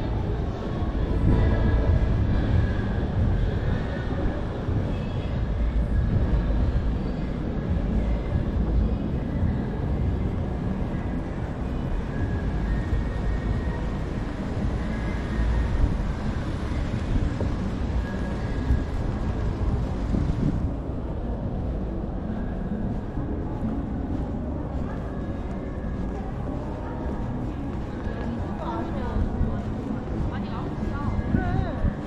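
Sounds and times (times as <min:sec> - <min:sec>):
crowd noise: 0:00.0 - 0:32.0
traffic rumble: 0:00.0 - 0:32.0.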